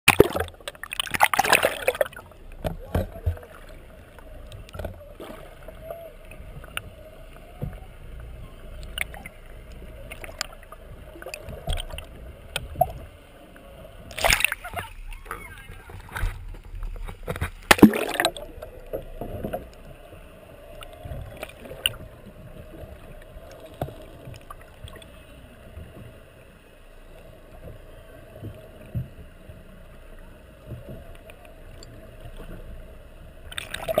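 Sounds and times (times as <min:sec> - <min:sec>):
underwater rush of water: 0:00.1 - 0:34.0
water splash and sloshing: 0:00.1 - 0:34.0.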